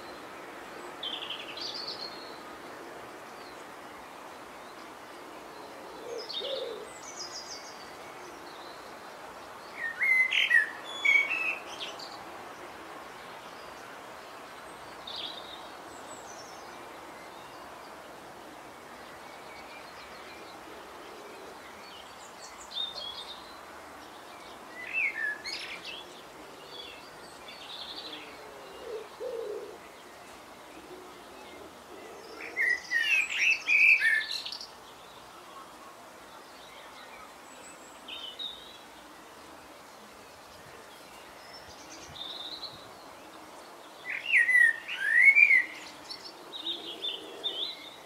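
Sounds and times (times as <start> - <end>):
steady outdoor hiss: 0.0 - 48.0.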